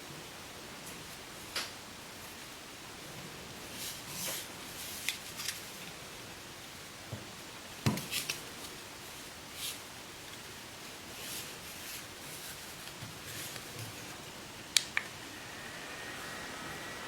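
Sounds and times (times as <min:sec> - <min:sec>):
faint hiss: 0:00.2 - 0:17.0.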